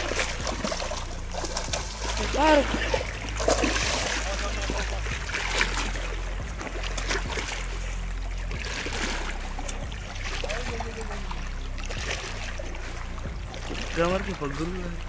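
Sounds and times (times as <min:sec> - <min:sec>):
small waves lapping on rocks: 0:00.0 - 0:15.0
steady low rumble: 0:00.0 - 0:15.0.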